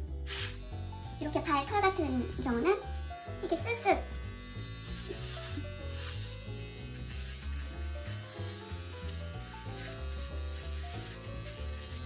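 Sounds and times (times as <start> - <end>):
background music: 0.0 - 12.0
electric paw trimmer buzzing: 0.0 - 12.0.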